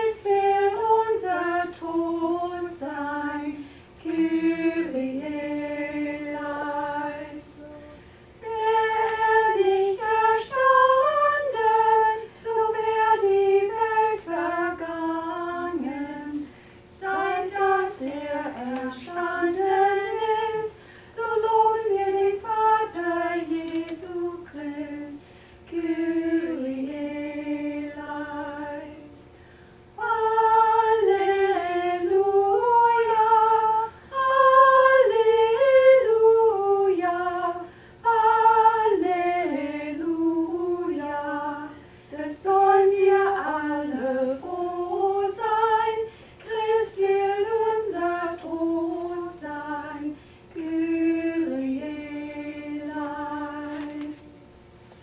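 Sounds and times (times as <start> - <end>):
group of women singing: 0.0 - 29.3, 30.0 - 54.5.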